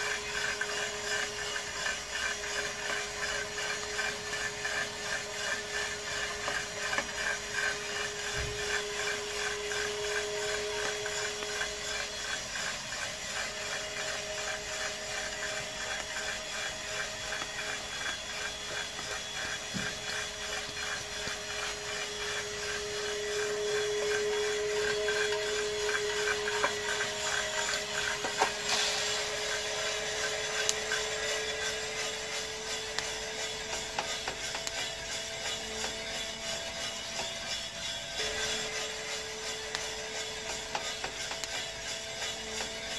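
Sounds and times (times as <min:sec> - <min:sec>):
coffee beans tumbling in drum: 0:00.0 - 0:42.9
steady hum: 0:00.0 - 0:42.9.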